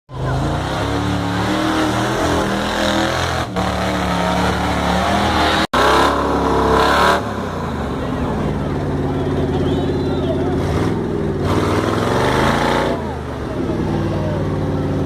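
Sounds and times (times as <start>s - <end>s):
off-road vehicle engine revving: 0.1s - 15.0s.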